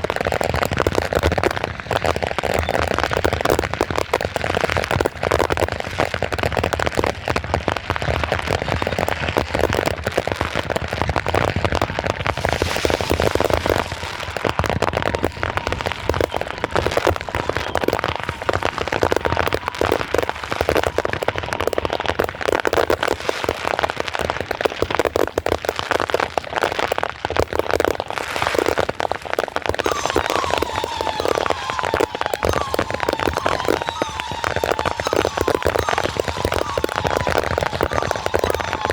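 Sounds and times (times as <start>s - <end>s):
fireworks crackling and popping: 0.0s - 38.9s.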